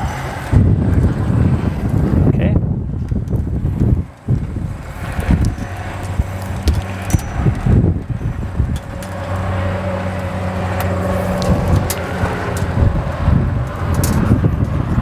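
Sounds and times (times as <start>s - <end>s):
engine running with low hum: 0.0s - 15.0s
wind gusting on microphone: 0.0s - 15.0s.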